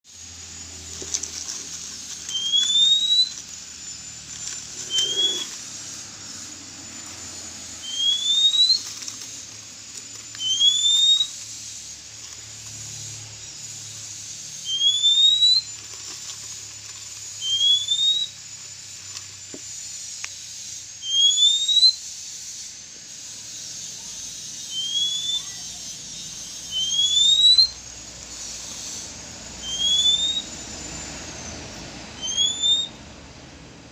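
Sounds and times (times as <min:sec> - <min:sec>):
bird shrill rising whistle: 0:02.0 - 0:09.4, 0:10.2 - 0:12.2, 0:13.0 - 0:16.6, 0:17.2 - 0:33.0.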